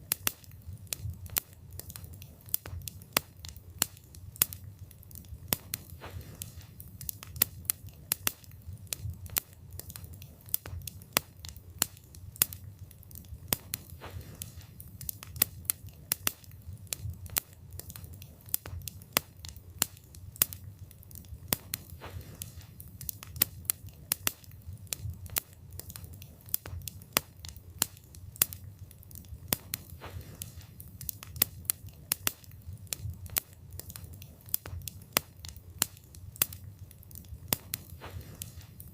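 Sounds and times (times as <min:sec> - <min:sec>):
low rumble of flames: 0:00.0 - 0:38.9
wood crackling and popping: 0:00.0 - 0:38.9.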